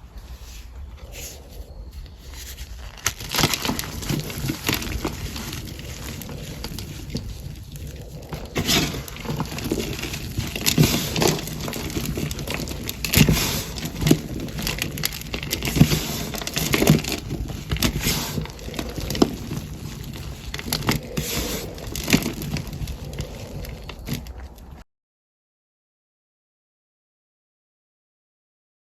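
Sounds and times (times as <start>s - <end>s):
cornstarch crunching: 0.3s - 24.8s.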